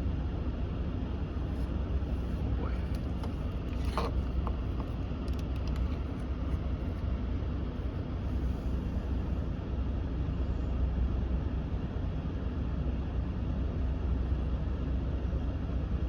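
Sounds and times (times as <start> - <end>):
blower fan running: 0.0 - 16.0.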